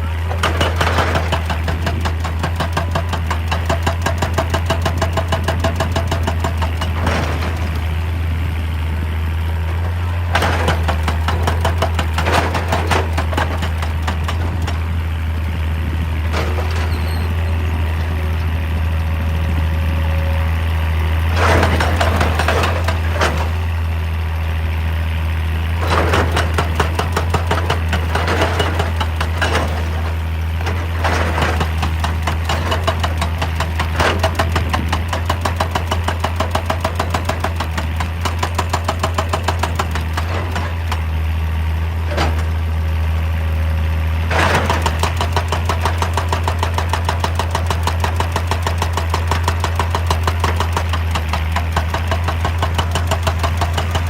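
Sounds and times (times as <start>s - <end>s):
excavator diesel engine running: 0.0s - 54.0s
hydraulic breaker hammering rock: 0.1s - 8.4s, 9.3s - 19.2s, 21.2s - 23.8s, 25.7s - 41.3s, 44.3s - 54.0s.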